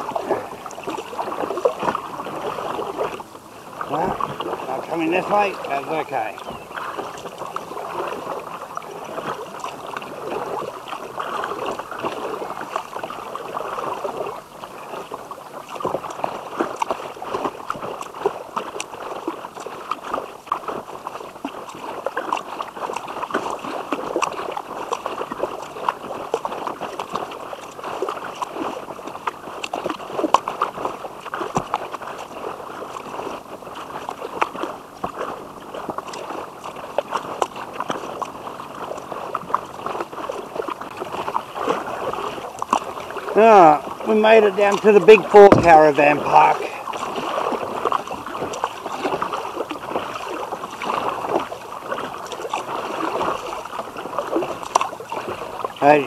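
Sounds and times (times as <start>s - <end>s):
paddle splashing: 0.0s - 56.0s
steady water wash: 0.0s - 56.0s
water gurgling along hull: 0.0s - 56.0s.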